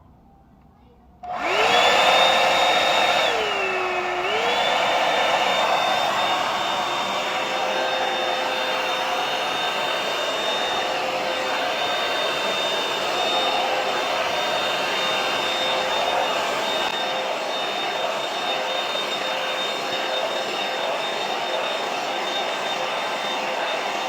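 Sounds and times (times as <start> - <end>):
hair dryer running: 1.2 - 24.0.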